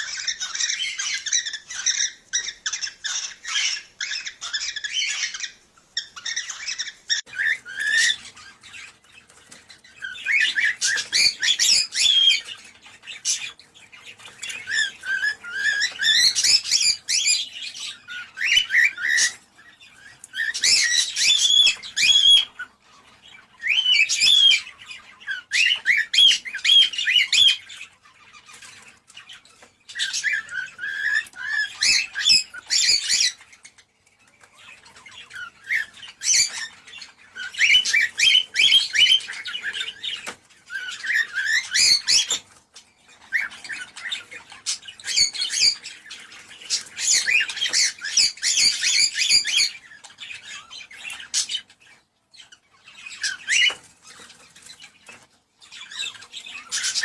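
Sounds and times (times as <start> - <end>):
cockatiel chirping and warbling: 0.0 - 57.0.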